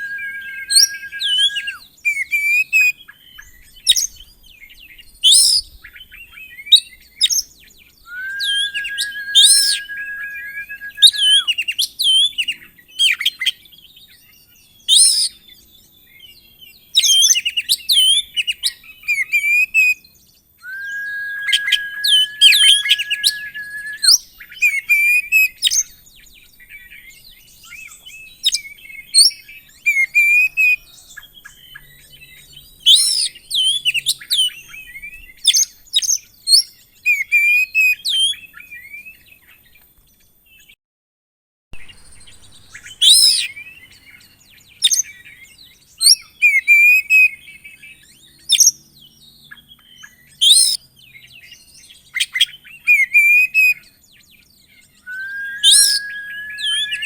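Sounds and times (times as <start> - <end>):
bird singing chirps and whistles: 0.0 - 39.6, 41.8 - 57.0.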